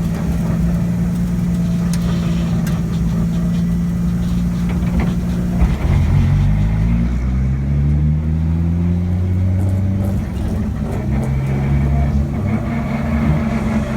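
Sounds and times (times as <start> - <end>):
car engine deep rumble: 0.0 - 13.9.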